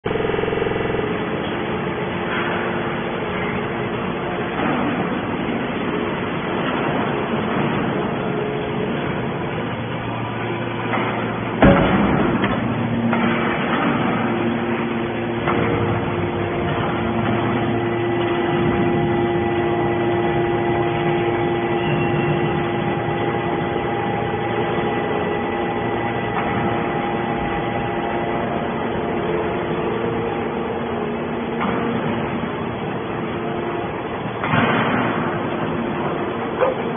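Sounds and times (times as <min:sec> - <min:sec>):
hydraulic machine hum: 0:00.0 - 0:36.9
machine whine: 0:00.0 - 0:36.9.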